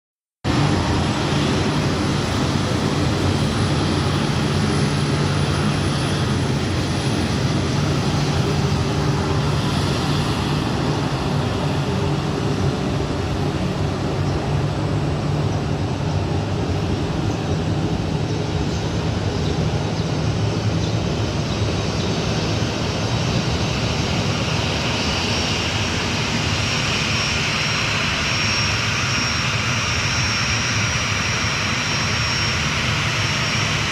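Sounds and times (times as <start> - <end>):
aircraft engines humming: 0.4 - 33.9
high engine whine: 0.5 - 33.9.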